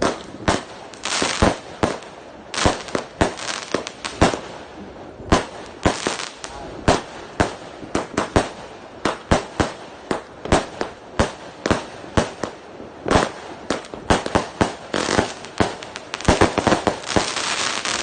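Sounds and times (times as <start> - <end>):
fireworks banging: 0.0 - 18.0
fireworks crackling: 0.0 - 18.0.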